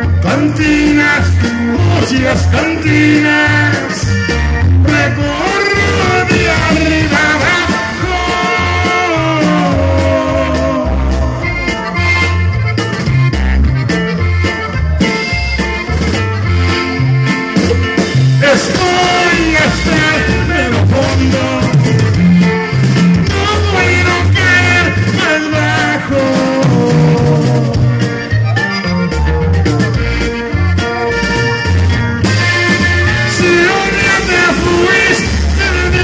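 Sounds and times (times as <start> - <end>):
button accordion melody: 0.0 - 36.0
drum kit beat: 0.0 - 36.0
guitar: 0.0 - 36.0.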